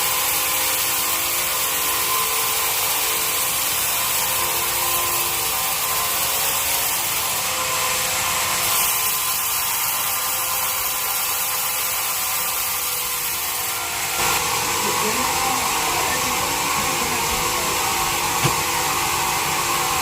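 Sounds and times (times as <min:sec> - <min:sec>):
bandsaw cutting wood: 0:00.0 - 0:20.0.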